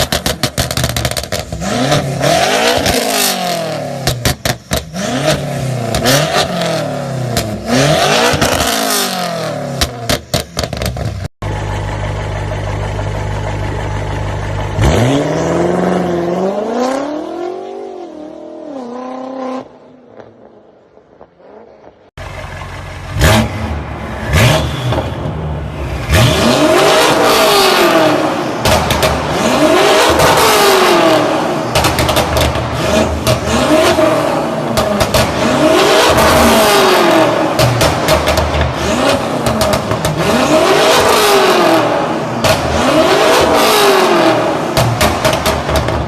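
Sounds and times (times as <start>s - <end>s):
car engine revving: 0.0s - 11.3s, 12.7s - 46.0s.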